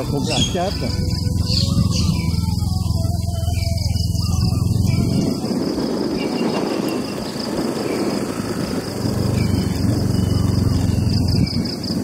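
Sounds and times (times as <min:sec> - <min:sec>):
motorbike engine running: 0:00.0 - 0:12.0
road noise: 0:00.0 - 0:12.0
wind: 0:00.0 - 0:12.0.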